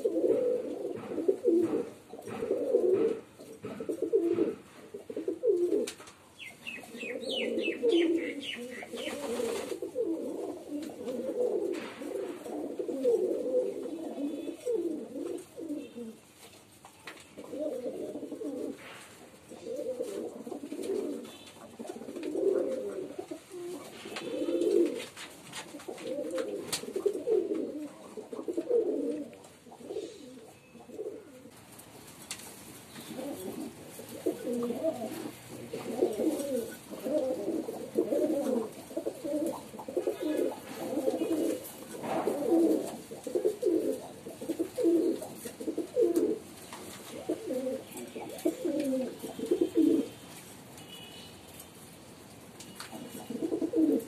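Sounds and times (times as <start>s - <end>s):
pigeons cooing: 0.0s - 50.2s, 52.8s - 54.0s.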